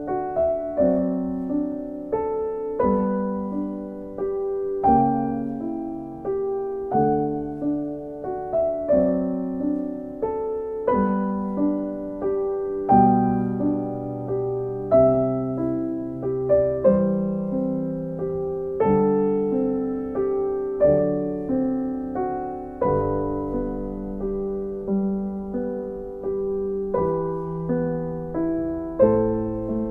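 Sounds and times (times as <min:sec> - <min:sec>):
slow gentle piano music: 0:00.0 - 0:29.9.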